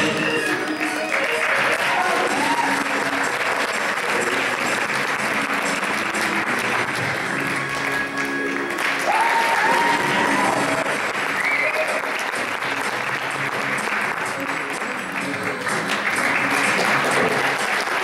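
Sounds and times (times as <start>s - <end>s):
audience applauding: 0.0s - 18.0s
music: 0.0s - 18.0s.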